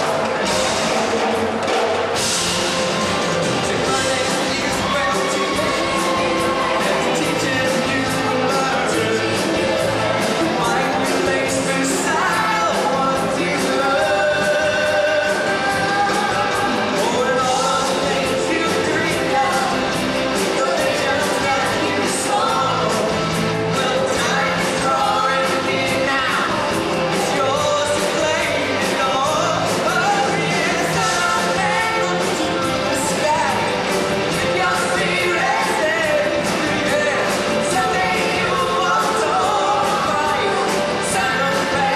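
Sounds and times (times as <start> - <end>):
drums steady beat: 0.0 - 41.9
people singing: 0.0 - 41.9
rock band playing live: 0.0 - 41.9.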